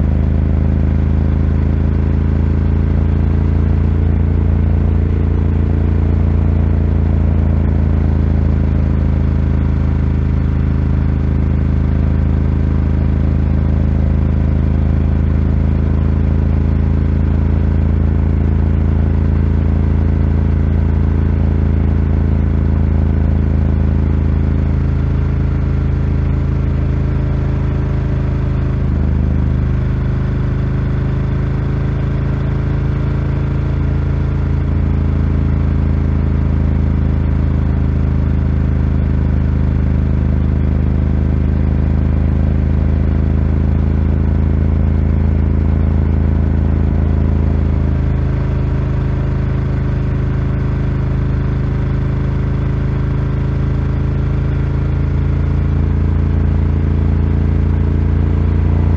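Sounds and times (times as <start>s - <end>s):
motorcycle engine cruising: 0.0s - 58.9s.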